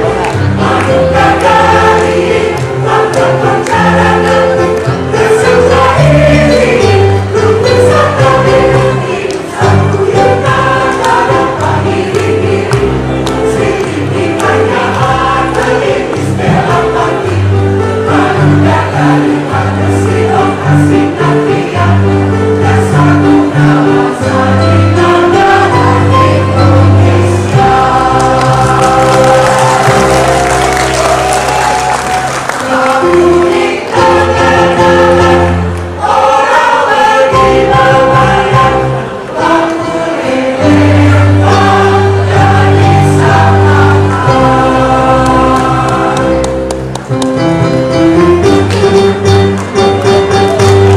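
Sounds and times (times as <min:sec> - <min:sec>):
mixed choir singing: 0:00.0 - 0:46.9
electronic keyboard accompaniment: 0:00.0 - 0:50.9.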